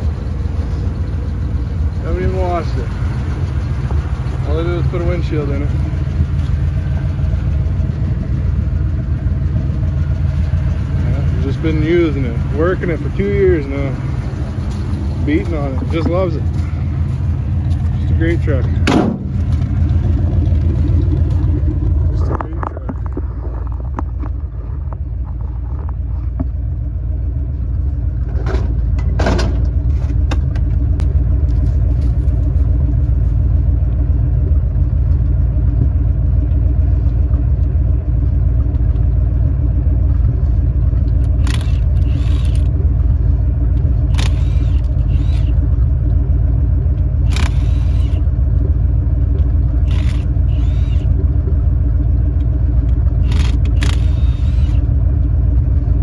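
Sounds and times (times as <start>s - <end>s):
truck engine rumble: 0.0s - 56.0s.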